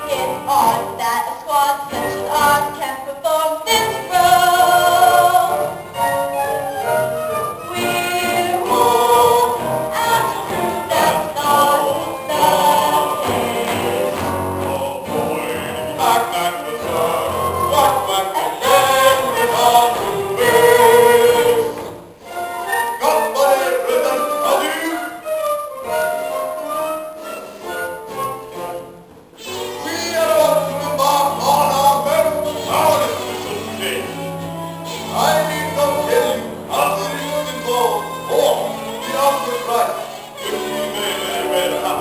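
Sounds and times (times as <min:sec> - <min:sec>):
group singing in chorus: 0:00.0 - 0:01.1, 0:01.8 - 0:06.0, 0:07.6 - 0:22.1, 0:22.7 - 0:25.0, 0:28.5 - 0:42.0
instrumental accompaniment: 0:00.0 - 0:42.0.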